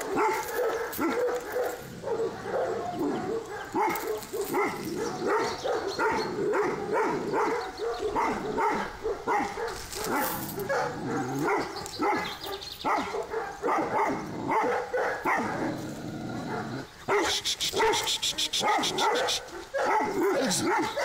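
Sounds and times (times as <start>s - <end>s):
dog barking: 0.0s - 15.8s, 16.4s - 21.0s.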